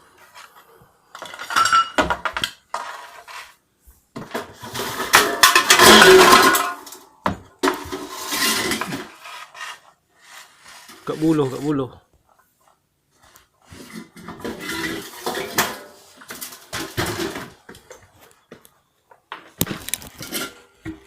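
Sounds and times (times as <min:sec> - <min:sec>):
household objects clattering: 0:00.2 - 0:11.8, 0:13.6 - 0:18.4, 0:19.3 - 0:21.0.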